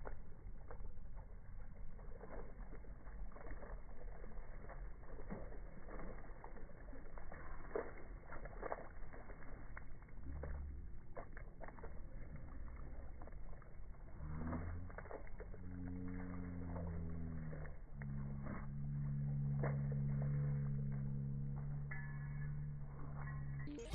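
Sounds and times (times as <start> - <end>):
boots splashing in puddle: 0.0 - 23.9.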